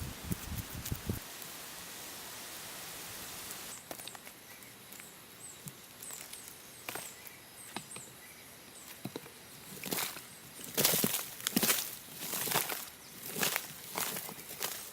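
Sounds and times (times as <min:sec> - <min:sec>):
soft steady hiss: 0:00.0 - 0:14.9.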